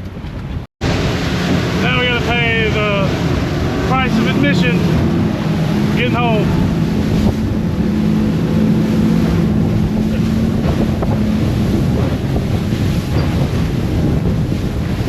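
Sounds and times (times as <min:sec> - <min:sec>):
boat engine hum: 0:00.0 - 0:15.0
waves slapping against hull: 0:00.0 - 0:15.0
wind on microphone: 0:00.0 - 0:15.0.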